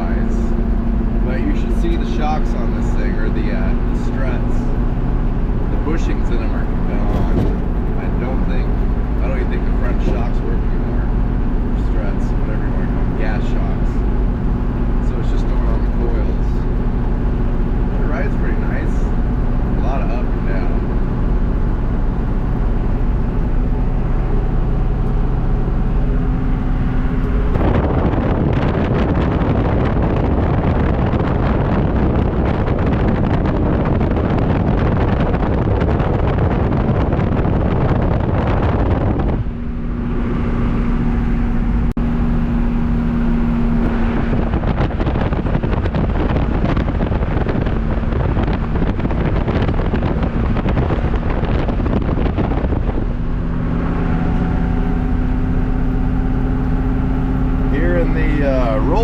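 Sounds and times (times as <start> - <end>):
diesel truck engine running: 0.0 - 59.0
road and wind noise: 0.0 - 59.0.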